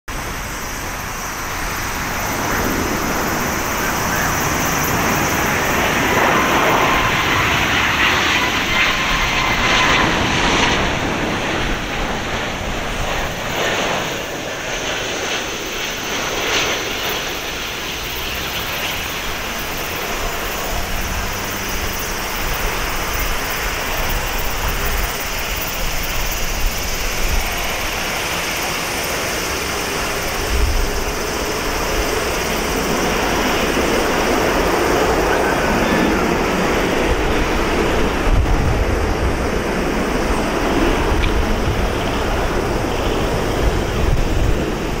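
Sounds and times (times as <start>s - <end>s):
jet airliner landing: 0.1s - 45.0s.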